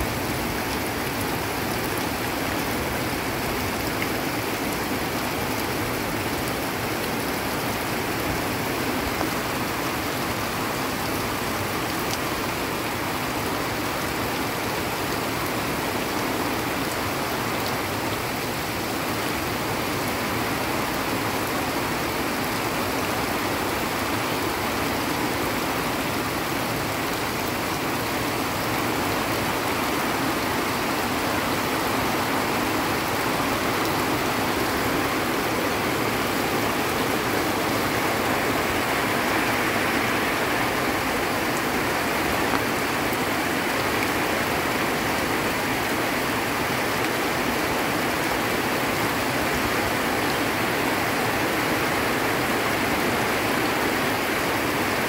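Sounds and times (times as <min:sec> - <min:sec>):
heavy rain on foliage: 0:00.0 - 0:55.0
runoff water flowing: 0:00.0 - 0:55.0.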